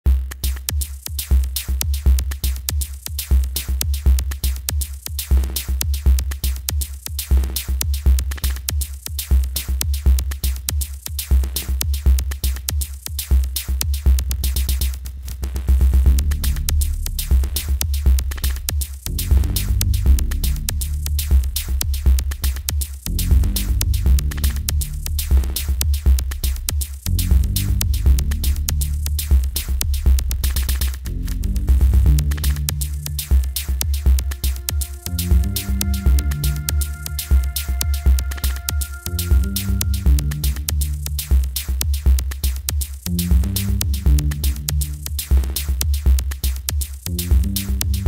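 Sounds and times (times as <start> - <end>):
electronic music with drum machine: 0.1 - 48.0.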